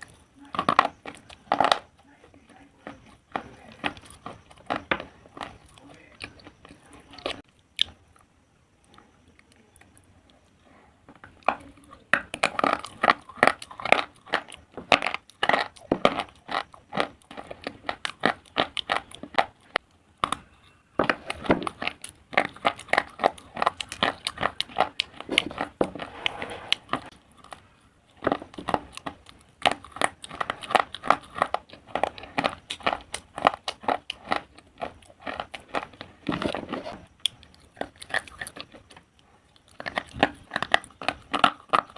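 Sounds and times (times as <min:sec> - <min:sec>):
person chewing crunchy pencil pieces: 0:00.0 - 0:26.0, 0:26.8 - 0:41.9.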